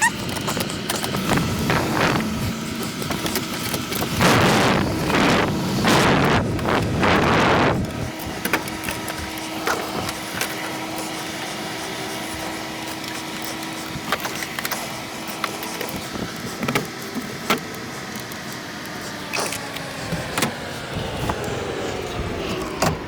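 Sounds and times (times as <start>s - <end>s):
steady hum: 0.1s - 23.0s.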